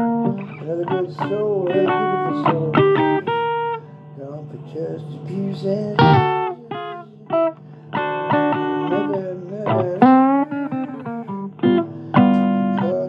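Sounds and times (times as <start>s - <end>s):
blues guitar plucked notes: 0.0s - 13.0s.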